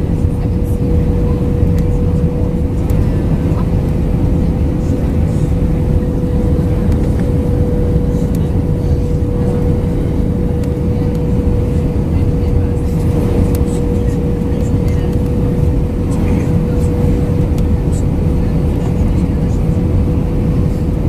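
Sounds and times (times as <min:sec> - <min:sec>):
constant hum tone: 0:00.0 - 0:21.0
jet engine cabin rumble: 0:00.0 - 0:21.0.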